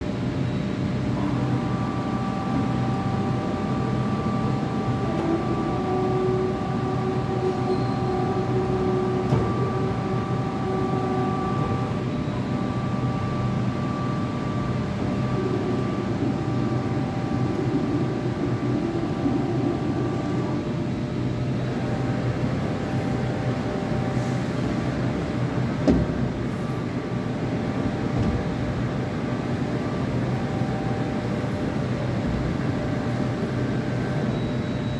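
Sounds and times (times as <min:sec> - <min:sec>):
milling machine hum: 0:00.1 - 0:34.9.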